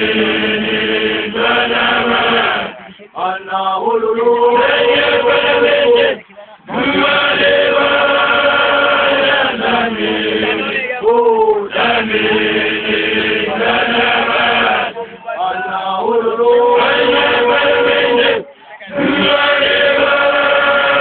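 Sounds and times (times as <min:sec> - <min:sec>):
voices chanting held notes: 0:00.0 - 0:21.0.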